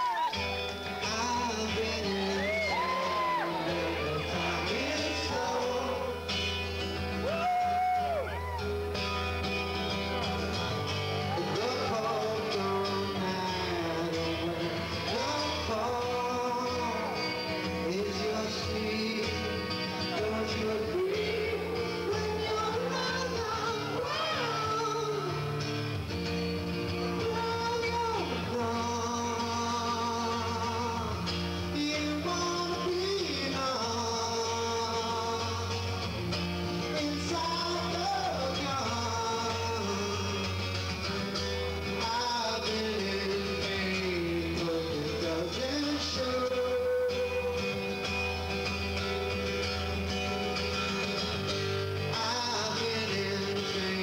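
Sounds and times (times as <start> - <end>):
man singing: 0.0 - 7.7, 11.2 - 25.6, 27.0 - 36.1, 36.7 - 48.4, 50.6 - 54.0
guitar playing: 0.0 - 54.0.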